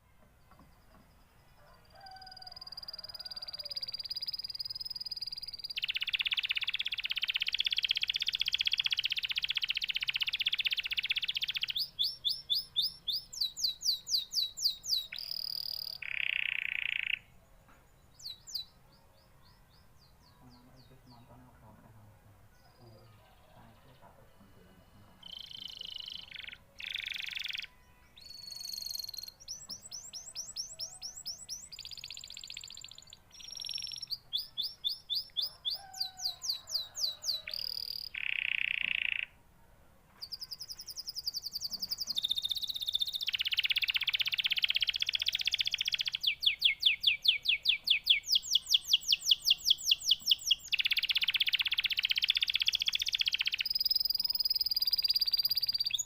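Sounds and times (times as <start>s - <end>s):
canary singing: 0.0s - 21.8s, 22.6s - 39.4s, 40.2s - 56.0s.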